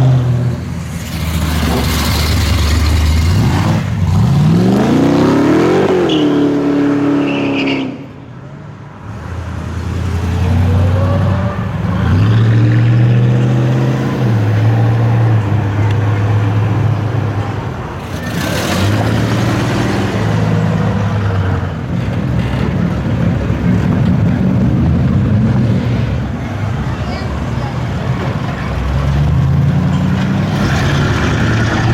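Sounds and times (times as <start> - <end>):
car engines at low revs: 0.0 - 7.4, 8.0 - 31.9.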